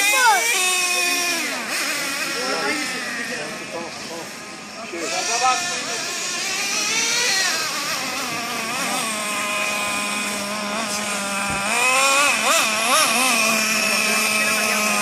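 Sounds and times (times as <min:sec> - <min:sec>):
rc truck engine whining: 0:00.0 - 0:15.0.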